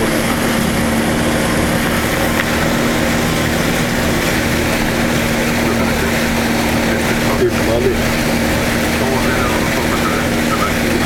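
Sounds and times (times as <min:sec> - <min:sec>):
boat engine humming: 0:00.0 - 0:11.0
rushing water: 0:00.0 - 0:11.0
wind: 0:00.0 - 0:11.0.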